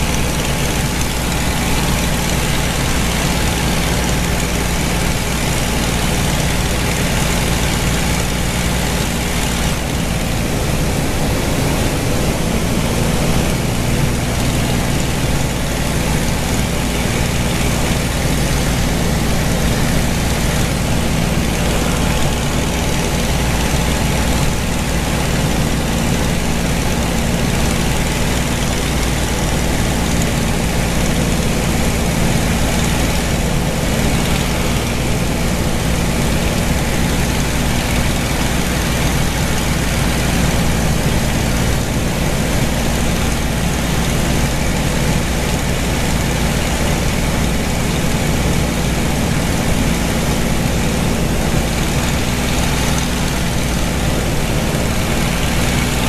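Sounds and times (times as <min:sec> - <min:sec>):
piston aircraft engine drone: 0:00.0 - 0:56.0.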